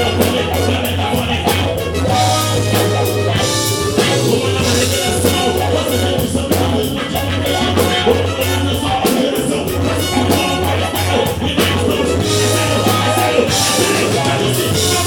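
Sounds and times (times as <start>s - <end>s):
drum kit steady beat: 0.0s - 15.0s
live band playing instrumental: 0.0s - 15.0s.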